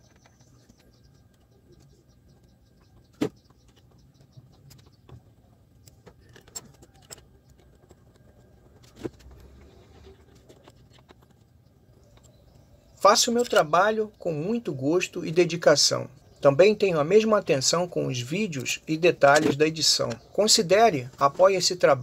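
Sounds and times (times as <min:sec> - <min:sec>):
handling clicks and knocks: 0:00.0 - 0:14.5, 0:17.6 - 0:21.8.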